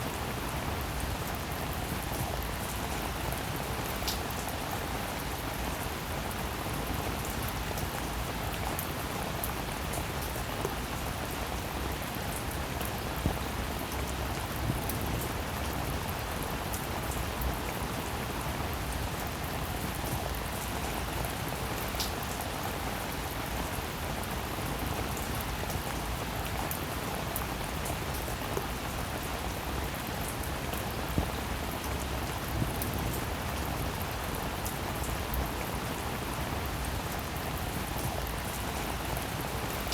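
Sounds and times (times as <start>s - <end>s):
raindrops ticking and pattering: 0.0s - 39.9s
steady rain hiss: 0.0s - 39.9s.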